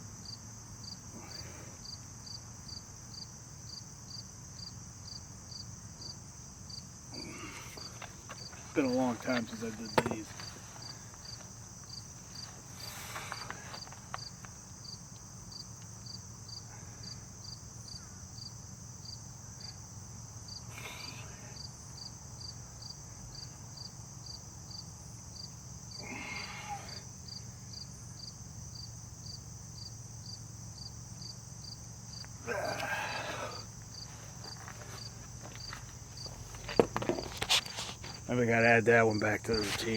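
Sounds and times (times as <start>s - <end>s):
continuous high buzz: 0.0s - 39.9s
insects chirping: 0.0s - 39.9s.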